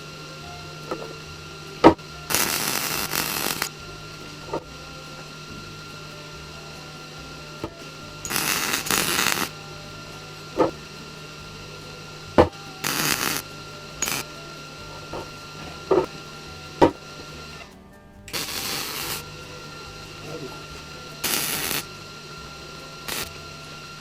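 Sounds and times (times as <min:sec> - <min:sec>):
electrical hum: 0:00.0 - 0:24.0
short bursts of hiss: 0:00.9 - 0:04.7, 0:05.3 - 0:17.4, 0:18.3 - 0:24.0.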